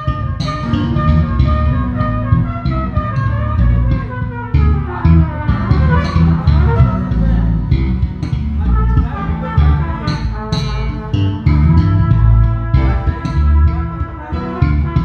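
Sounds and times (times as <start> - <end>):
electric bass guitar: 0.0 - 15.0
sliding lead melody: 0.0 - 15.0.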